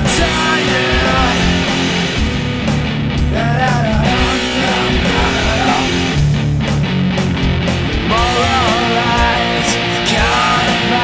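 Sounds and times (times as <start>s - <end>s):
alternative rock song: 0.0s - 11.0s.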